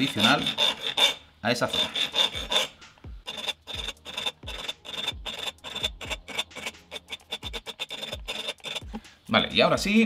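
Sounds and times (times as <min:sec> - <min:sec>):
metal file scraping metal tube: 0:00.0 - 0:09.2.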